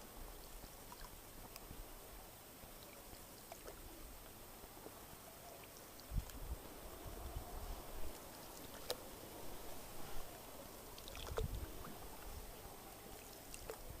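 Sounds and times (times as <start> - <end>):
oars dipping and splashing: 0.4 - 1.9, 2.7 - 14.0.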